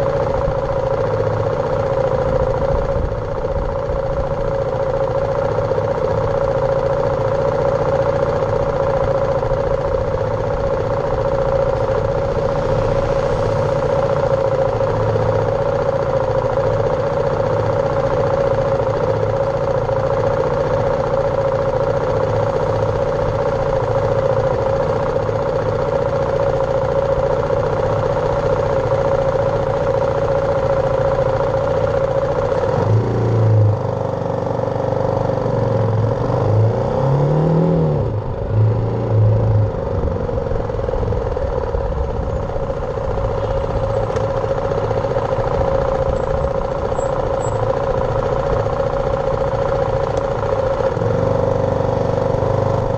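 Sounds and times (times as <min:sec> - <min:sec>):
motorcycle engine humming: 0:00.0 - 0:52.9.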